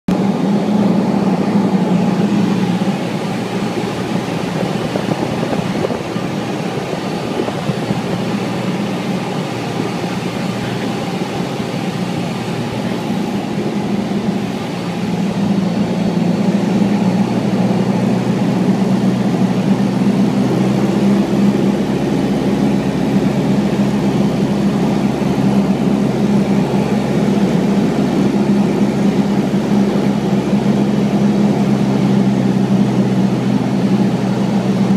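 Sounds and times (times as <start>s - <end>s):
airplane engine and propeller drone: 0.1s - 34.9s.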